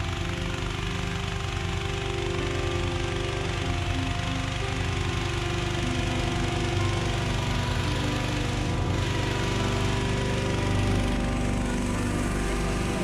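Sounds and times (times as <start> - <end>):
petrol-engined fan running: 0.0 - 13.0.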